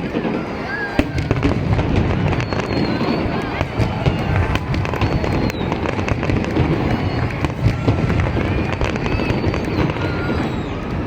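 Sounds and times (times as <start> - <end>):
fireworks booming: 0.0 - 11.0
fireworks cracking and crackling: 0.0 - 11.0.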